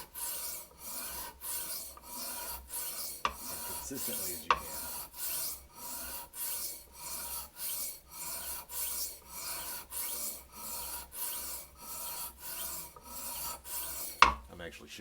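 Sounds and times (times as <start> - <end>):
knife stroking on sharpening stone: 0.0 - 14.6.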